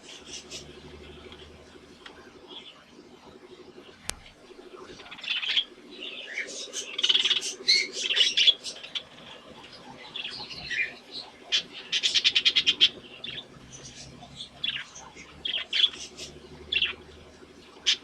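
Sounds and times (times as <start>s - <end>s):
budgerigars chirping and warbling: 0.0s - 2.8s, 4.7s - 18.0s
budgerigar clicking chatter: 0.0s - 18.0s.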